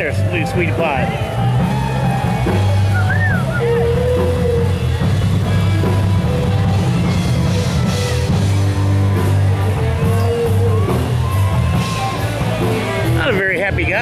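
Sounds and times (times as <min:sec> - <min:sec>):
rock music with bass line: 0:00.0 - 0:14.0.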